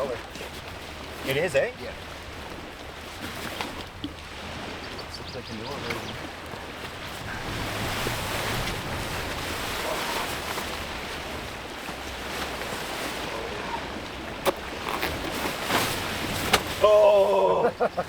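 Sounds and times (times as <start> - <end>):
wind on microphone: 2.0 - 17.9.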